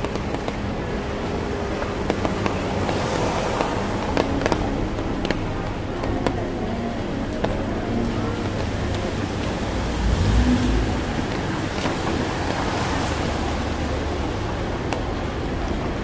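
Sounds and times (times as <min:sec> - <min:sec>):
street noise in rain: 0:00.0 - 0:16.0.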